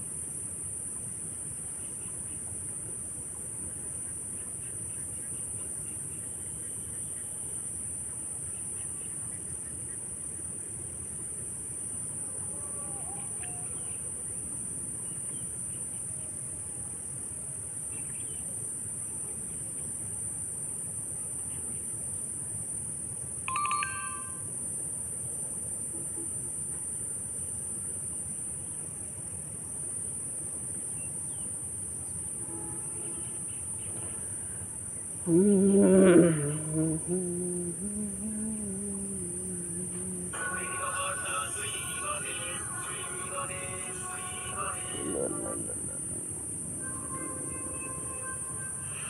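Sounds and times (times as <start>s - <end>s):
crickets and insects chirping: 0.0s - 49.0s
low background noise: 0.0s - 49.0s.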